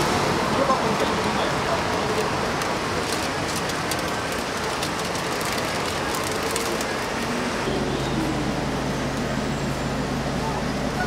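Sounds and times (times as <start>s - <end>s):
low engine hum: 0.0s - 11.0s
street background noise: 0.0s - 11.0s.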